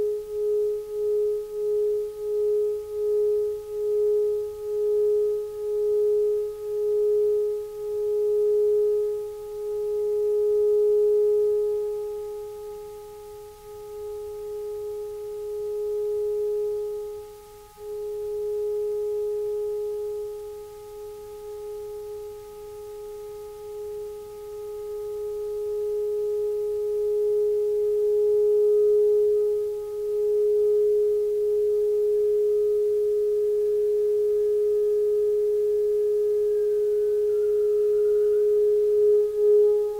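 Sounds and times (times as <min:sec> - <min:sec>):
pure tone drone: 0:00.0 - 0:39.9.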